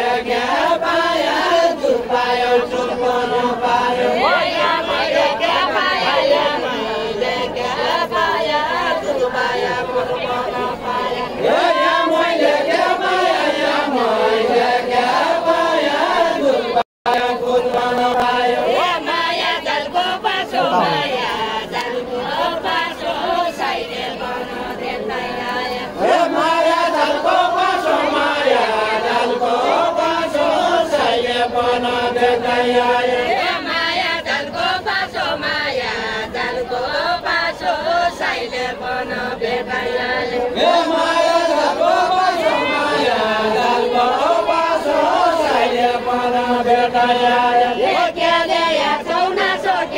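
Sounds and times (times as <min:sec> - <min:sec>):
group singing unaccompanied: 0:00.0 - 0:49.9.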